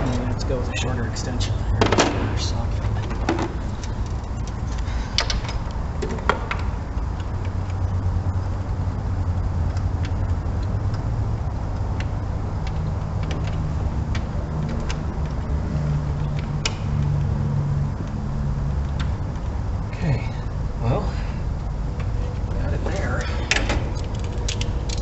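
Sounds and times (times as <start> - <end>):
low rumbling hum: 0.0 - 25.0.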